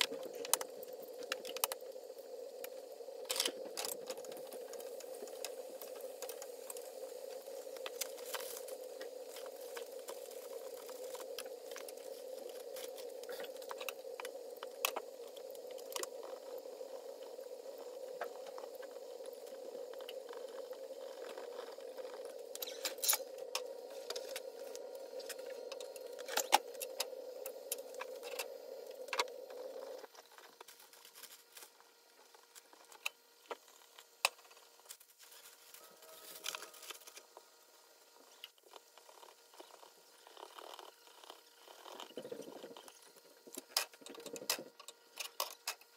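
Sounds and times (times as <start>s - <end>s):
steady hum: 0.0s - 45.9s.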